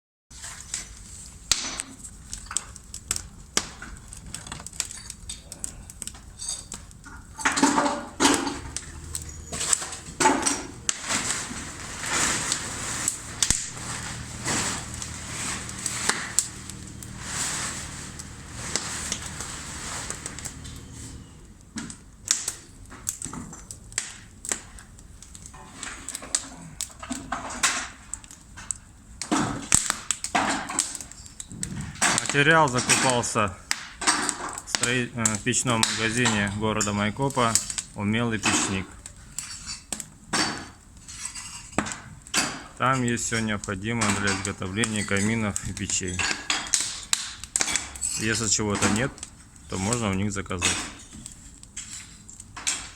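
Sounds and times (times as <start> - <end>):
scraping and clattering: 0.3 - 52.9.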